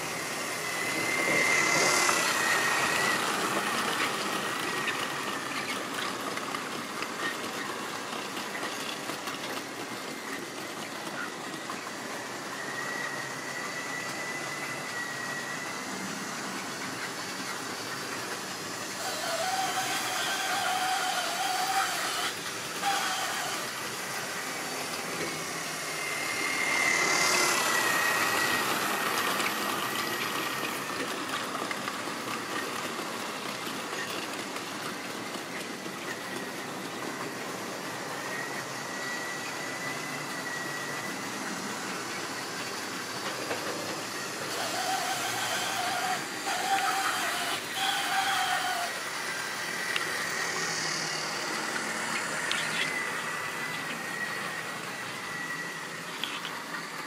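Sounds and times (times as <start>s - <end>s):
electric motor whine: 0.0s - 7.2s, 9.6s - 33.9s, 34.9s - 57.0s
model train wheels rattling on rail: 0.0s - 57.0s.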